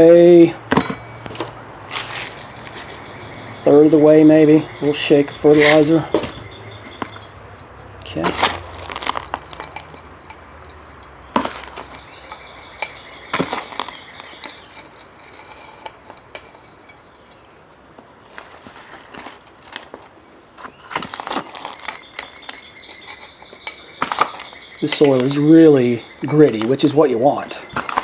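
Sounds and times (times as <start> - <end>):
grit clinking and rattling: 0.0 - 28.0.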